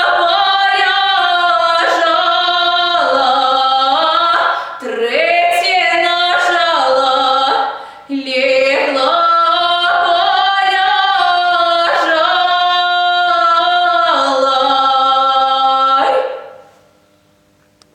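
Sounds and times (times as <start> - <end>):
woman singing unaccompanied: 0.0 - 16.6.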